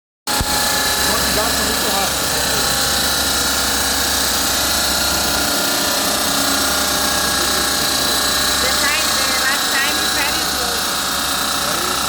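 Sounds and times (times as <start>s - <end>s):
stone-cutting saw whining: 0.3s - 12.0s.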